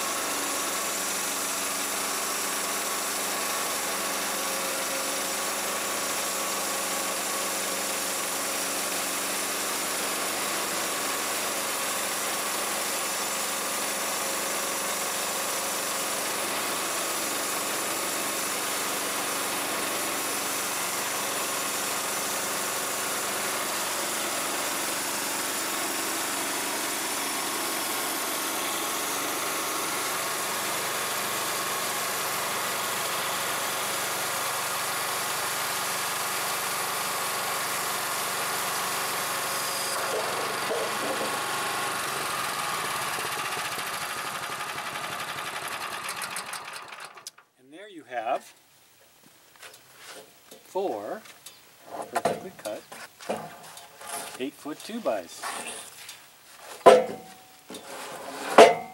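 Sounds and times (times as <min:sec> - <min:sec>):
band sawmill sawing log: 0:00.0 - 0:47.0, 0:51.8 - 0:58.9.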